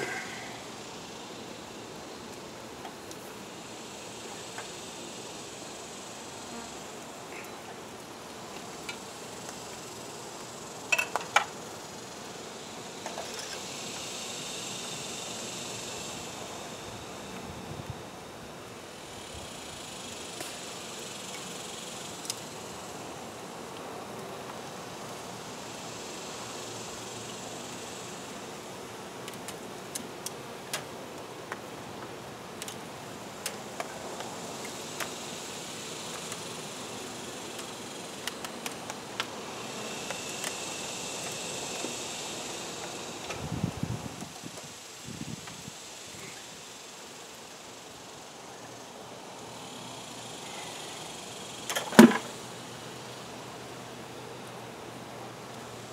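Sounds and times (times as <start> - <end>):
honey bees buzzing: 0.0 - 55.9.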